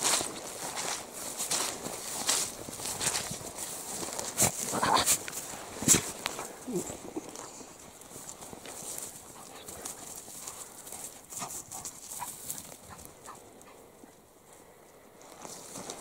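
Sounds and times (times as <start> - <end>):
rustling through dry heather: 0.0 - 16.0.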